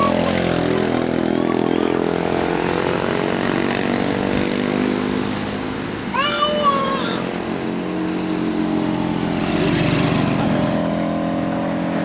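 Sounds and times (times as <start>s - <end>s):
vehicle engine droning past: 0.0s - 6.1s, 7.2s - 12.0s
road noise: 0.0s - 12.0s.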